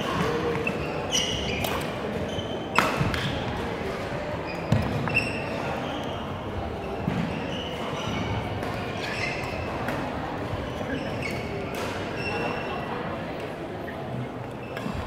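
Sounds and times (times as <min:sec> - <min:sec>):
sneakers squeaking: 0:00.0 - 0:03.5, 0:04.4 - 0:12.9, 0:13.9 - 0:15.0
background chatter: 0:00.0 - 0:15.0.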